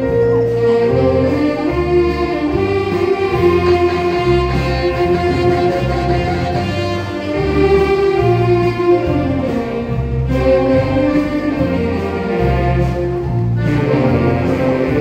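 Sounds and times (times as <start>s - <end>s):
band music melody: 0.0s - 15.0s
pulsing bass line: 0.0s - 15.0s.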